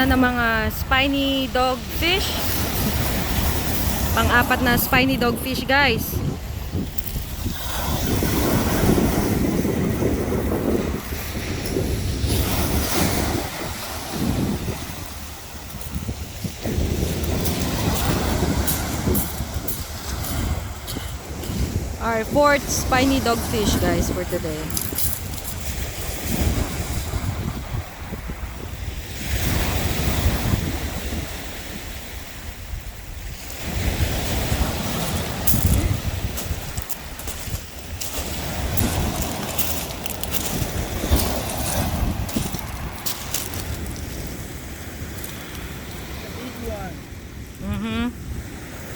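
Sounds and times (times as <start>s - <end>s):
waves rushing: 0.0s - 48.9s
wind buffeting microphone: 0.0s - 48.9s.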